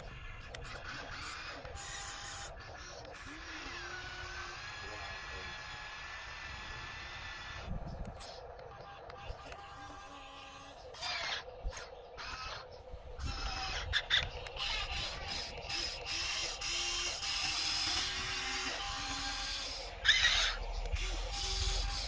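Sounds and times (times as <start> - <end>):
toy motors whirring: 0.0 - 22.0.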